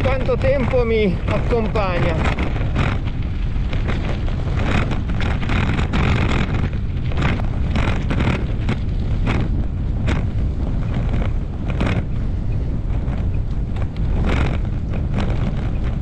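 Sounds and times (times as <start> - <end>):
bike tyres crunching on gravel: 0.0 - 16.0
wind buffeting microphone: 0.0 - 16.0.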